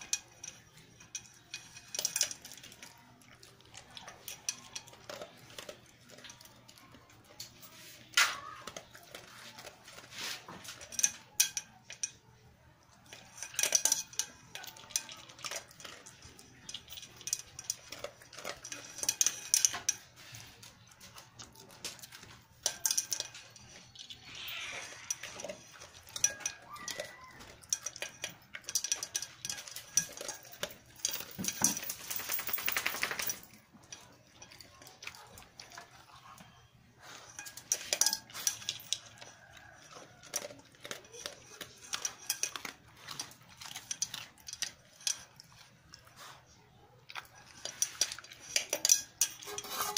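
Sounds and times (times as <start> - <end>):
clinking against metal pail: 0.0 - 12.3, 12.9 - 46.2, 47.1 - 49.9
dog chewing kibble: 0.0 - 49.9.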